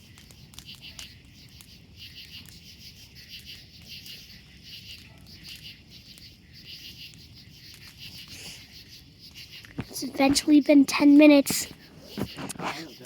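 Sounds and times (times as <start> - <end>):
bonfire crackling: 0.0 - 13.0
crickets chirping: 0.0 - 13.0.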